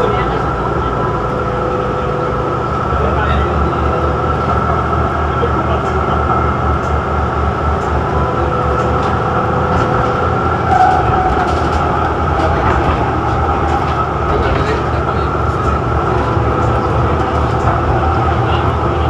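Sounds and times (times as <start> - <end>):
tram wheels rumbling on rail: 0.0 - 19.0.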